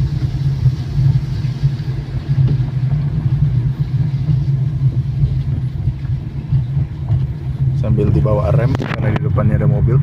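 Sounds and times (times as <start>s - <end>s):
tyres rumbling on road: 0.0s - 10.0s.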